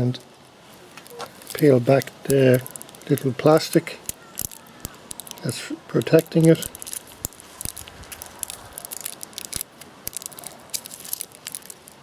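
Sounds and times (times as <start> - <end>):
plastic film peeling crackles: 0.6 - 12.0.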